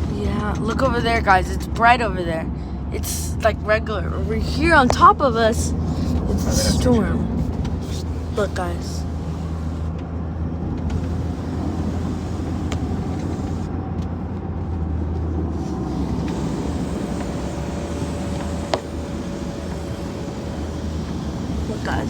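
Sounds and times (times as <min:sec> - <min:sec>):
car cabin road and engine rumble: 0:00.0 - 0:22.0.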